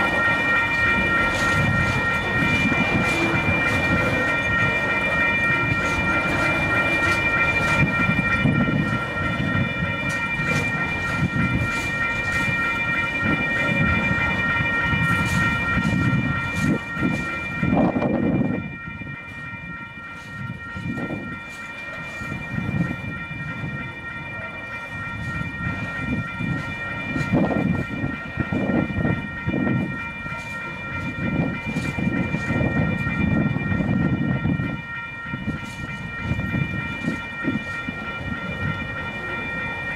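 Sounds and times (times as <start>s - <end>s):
crossing warning bell ringing: 0.0s - 39.9s
train wheels rumbling and knocking: 0.0s - 39.9s.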